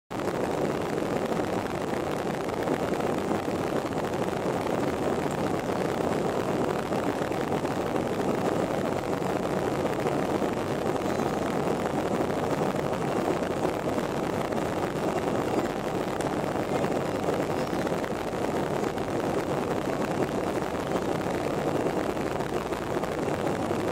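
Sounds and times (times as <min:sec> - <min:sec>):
jet engines running at low power: 0:00.1 - 0:23.9.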